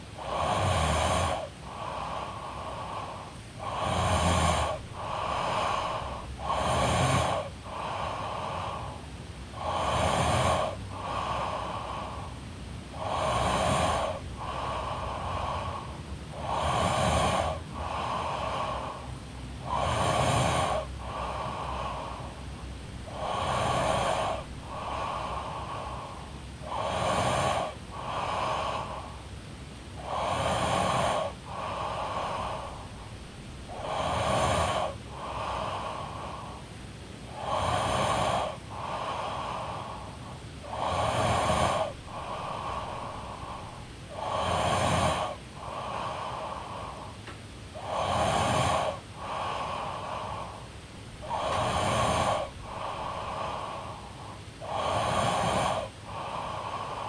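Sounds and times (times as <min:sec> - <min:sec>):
woman snoring: 0:00.0 - 0:29.3, 0:30.0 - 0:36.7, 0:37.3 - 0:57.0.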